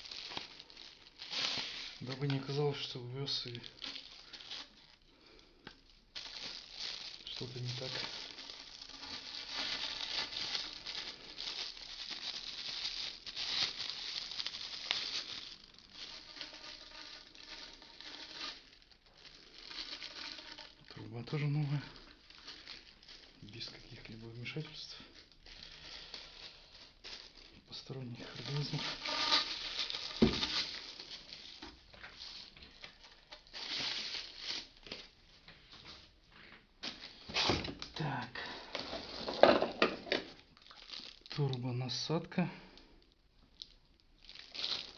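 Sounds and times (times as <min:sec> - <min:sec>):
plastic packaging rustling: 0:00.0 - 0:44.9.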